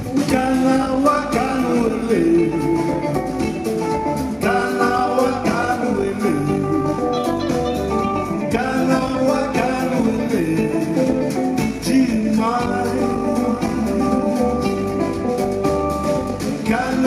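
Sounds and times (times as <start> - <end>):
man singing: 0.0 - 3.4, 4.2 - 7.6, 8.2 - 14.8, 16.4 - 17.0
drums: 0.0 - 17.0
electric guitars: 0.0 - 17.0.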